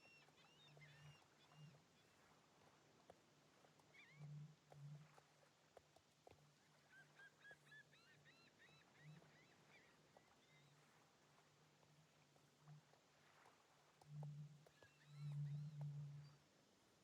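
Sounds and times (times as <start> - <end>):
faint steady low hum: 0.0 - 17.0.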